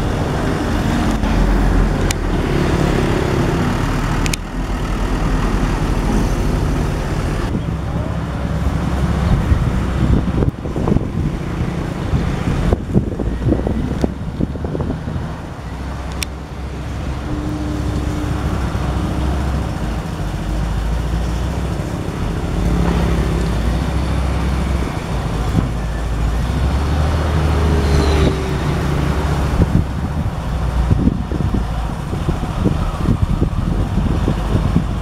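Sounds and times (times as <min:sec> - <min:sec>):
wheel loader diesel engine: 0:00.0 - 0:35.0.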